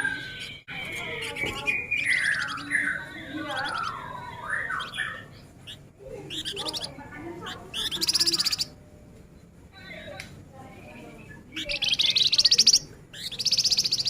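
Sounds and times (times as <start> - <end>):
songbird singing chattering song: 0.0 - 14.0.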